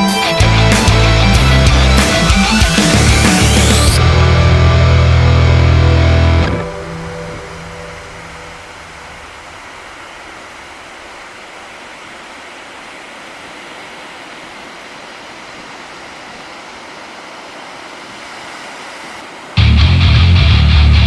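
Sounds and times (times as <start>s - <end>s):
ocean surf washing on beach: 0.0s - 19.6s.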